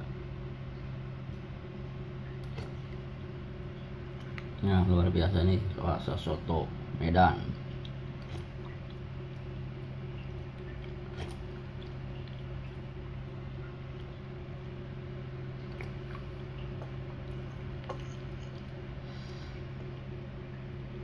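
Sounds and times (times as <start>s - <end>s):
steady low hum: 0.0s - 21.0s
soft wet eating sounds: 0.8s - 4.7s, 7.4s - 21.0s.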